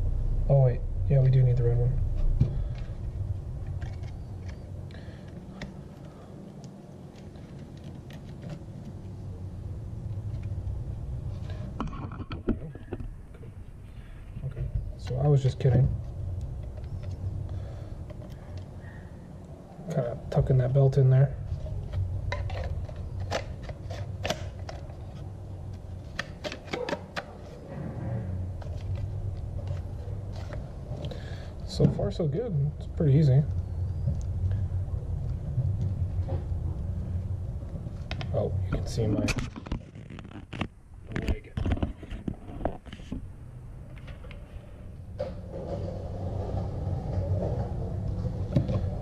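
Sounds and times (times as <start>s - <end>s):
low hum: 0.0s - 26.6s, 27.2s - 49.0s.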